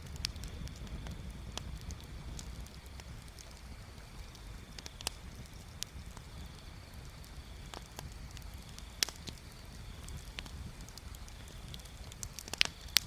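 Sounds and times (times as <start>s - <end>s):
bonfire crackling and popping: 0.0s - 13.0s
low steady rumble: 0.0s - 13.0s.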